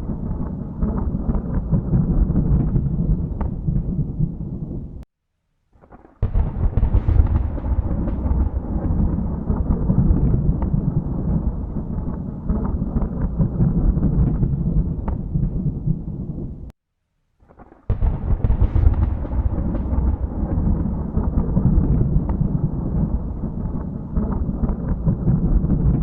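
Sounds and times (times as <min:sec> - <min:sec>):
thunder rumbling: 0:00.0 - 0:05.0, 0:06.2 - 0:16.7, 0:17.9 - 0:26.0.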